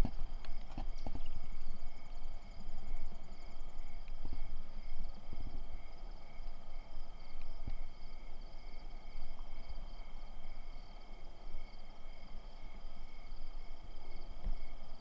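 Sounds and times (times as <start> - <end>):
crickets and insects chirping: 0.0 - 15.0.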